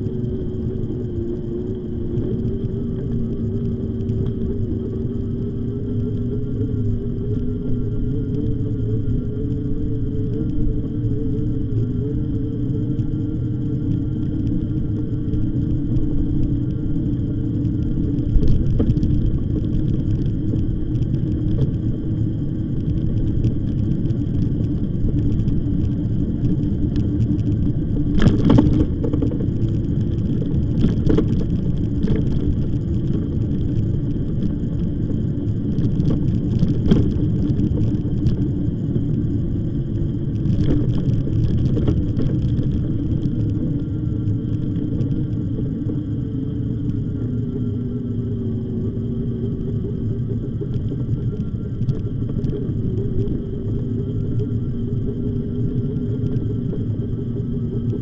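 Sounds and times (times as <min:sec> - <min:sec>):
tyres rumbling on rough path: 0:00.0 - 0:58.0.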